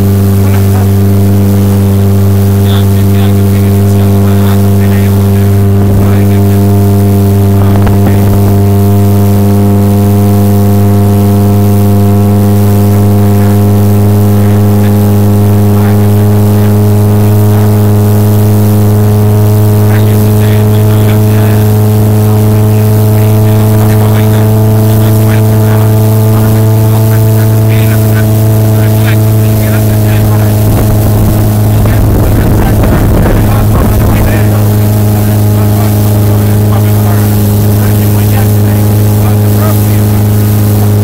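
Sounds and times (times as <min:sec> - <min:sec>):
motorboat engine droning: 0:00.0 - 0:41.0.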